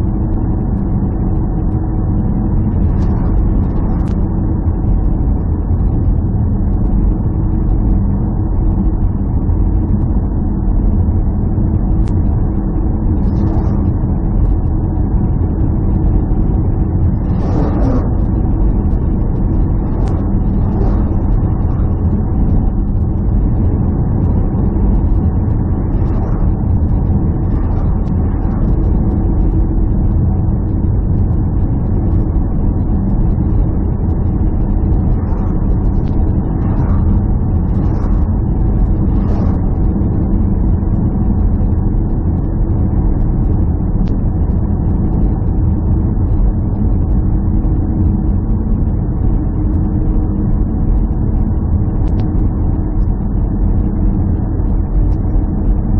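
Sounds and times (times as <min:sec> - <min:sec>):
low engine drone: 0:00.0 - 0:55.9.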